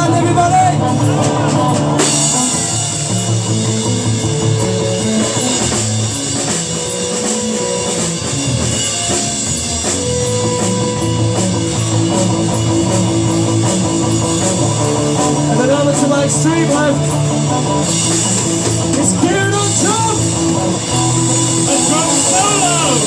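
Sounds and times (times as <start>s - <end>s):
bass guitar line: 0.0s - 23.0s
rock and roll band playing: 0.0s - 23.0s.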